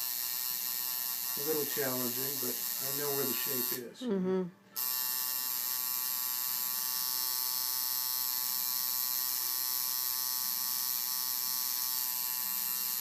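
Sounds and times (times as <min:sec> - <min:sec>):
tattoo machine buzzing: 0:00.0 - 0:03.9, 0:04.7 - 0:13.0.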